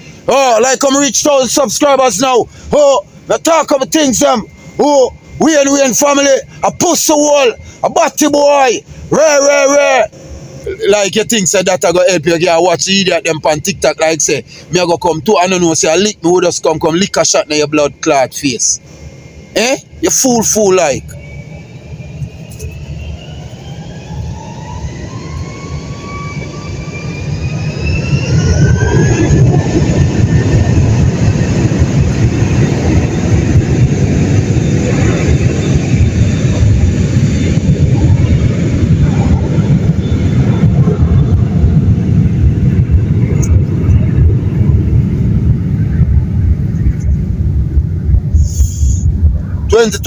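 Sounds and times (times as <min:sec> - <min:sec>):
jet engine whine and rush: 0:00.0 - 0:50.0.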